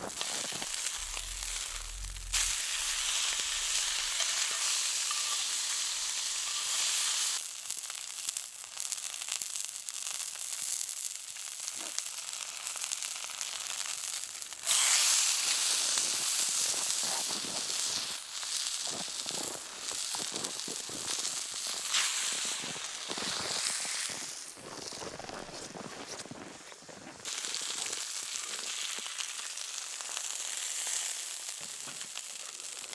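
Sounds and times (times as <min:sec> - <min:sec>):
food sizzling in a pan: 0:00.0 - 0:25.0, 0:27.2 - 0:32.9.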